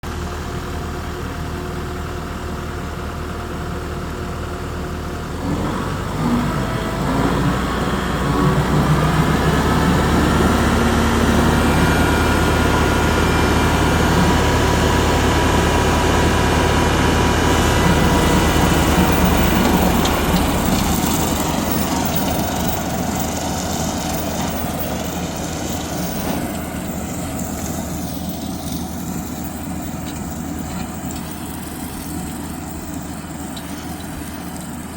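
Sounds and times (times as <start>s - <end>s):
engine running: 0.1s - 34.9s.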